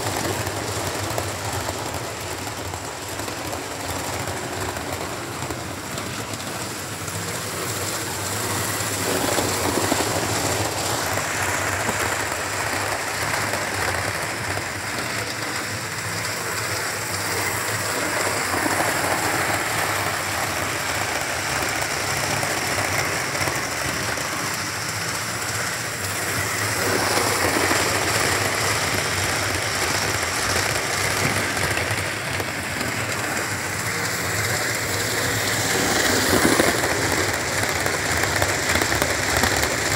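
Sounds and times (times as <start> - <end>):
model train running on track: 0.0 - 39.9.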